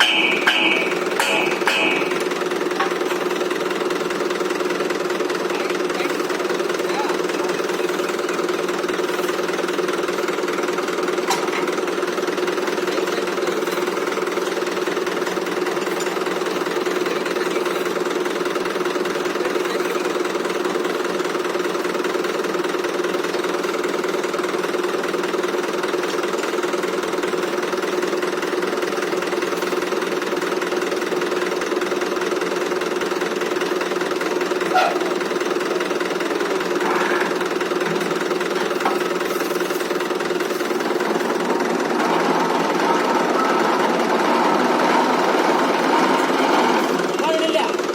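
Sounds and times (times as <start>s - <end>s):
tractor diesel engine droning: 0.0s - 47.9s.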